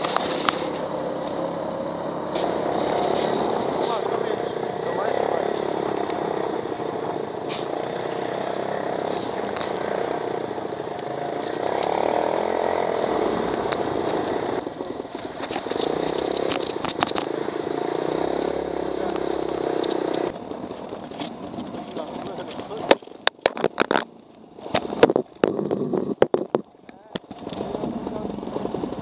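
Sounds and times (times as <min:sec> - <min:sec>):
clicks and rattles from bumpy ride: 0:00.0 - 0:01.7, 0:02.3 - 0:08.2, 0:09.0 - 0:10.0, 0:13.4 - 0:29.0
buggy engine running: 0:00.0 - 0:29.0.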